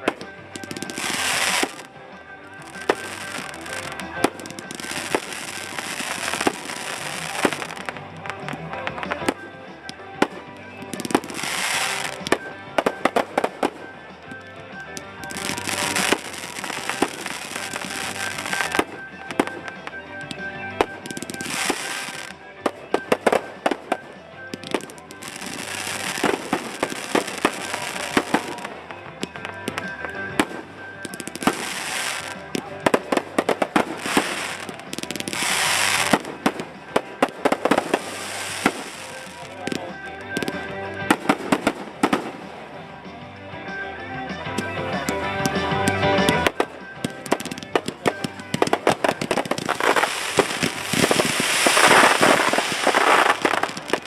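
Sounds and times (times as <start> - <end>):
fireworks hissing and crackling: 0.0 - 42.8, 44.7 - 54.0
faint music: 0.0 - 54.0.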